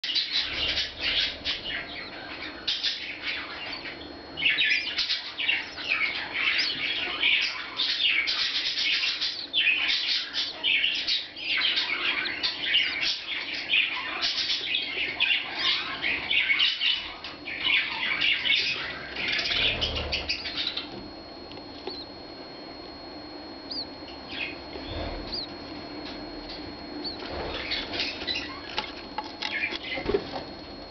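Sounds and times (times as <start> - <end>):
chicks cheeping: 0.0 - 30.9
faint high whine: 0.0 - 30.9.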